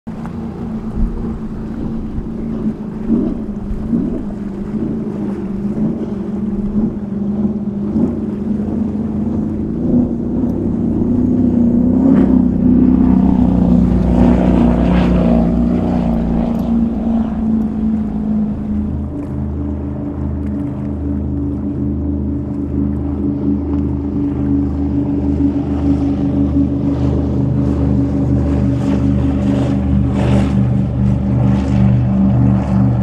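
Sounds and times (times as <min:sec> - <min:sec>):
motorboat engines droning: 0:00.1 - 0:33.0.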